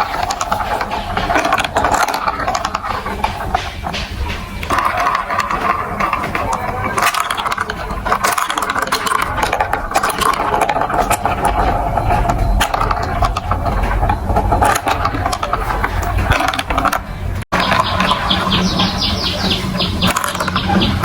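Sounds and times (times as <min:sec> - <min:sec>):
marbles rolling on plastic track: 0:00.0 - 0:21.0.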